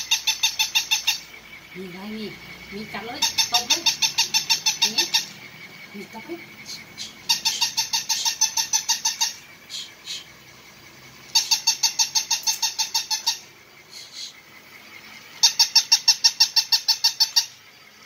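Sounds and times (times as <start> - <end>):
toy puppy electronic yapping: 0.0 - 1.5, 2.7 - 10.3, 11.2 - 13.6, 14.4 - 18.0.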